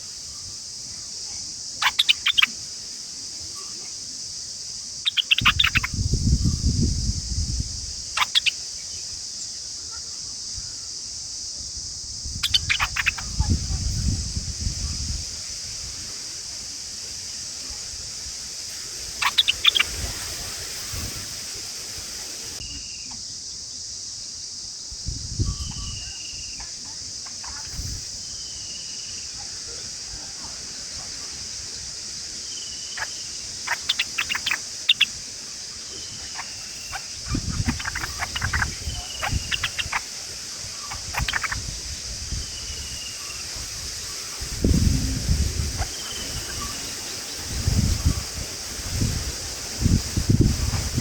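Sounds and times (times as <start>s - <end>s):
insect chorus: 0.0s - 51.0s.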